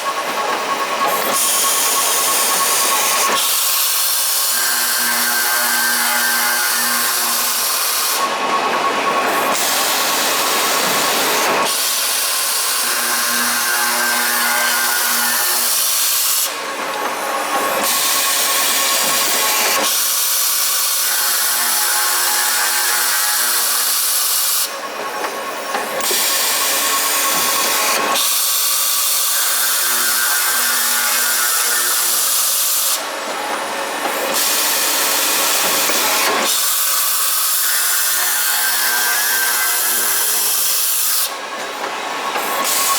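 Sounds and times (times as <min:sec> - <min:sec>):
pipe-cutting machine noise: 0:00.0 - 0:42.9.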